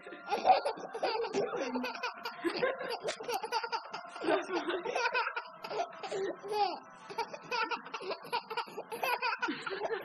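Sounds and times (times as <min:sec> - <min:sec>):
baby laughing: 0:00.3 - 0:10.0.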